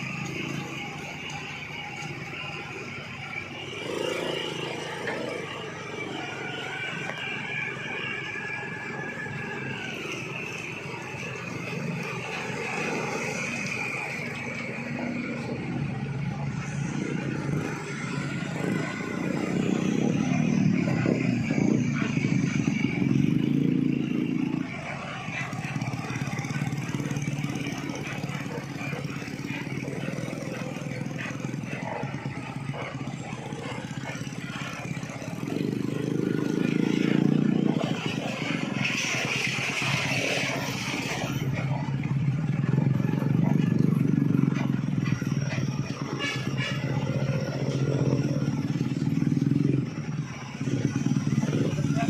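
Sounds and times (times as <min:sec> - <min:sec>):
heavy truck diesel engines labouring: 0:00.0 - 0:52.0.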